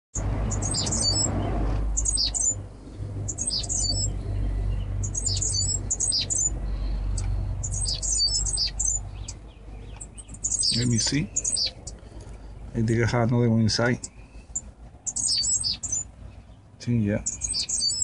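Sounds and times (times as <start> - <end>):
low steady hum: 0.2 - 18.0
small birds chirping: 0.2 - 18.0.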